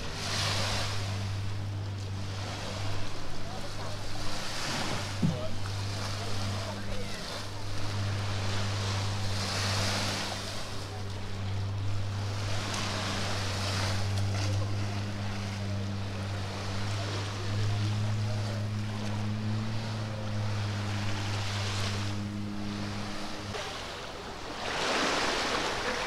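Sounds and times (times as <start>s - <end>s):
boat engine humming: 0.0s - 26.0s
small waves washing onto beach: 0.0s - 26.0s.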